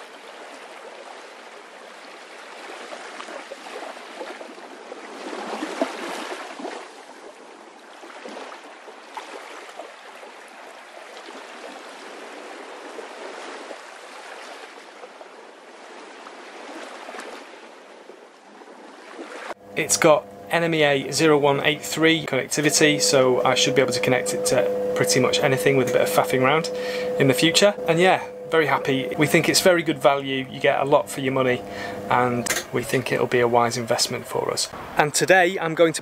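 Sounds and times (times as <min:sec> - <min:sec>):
water gurgling and trickling: 0:00.0 - 0:34.5.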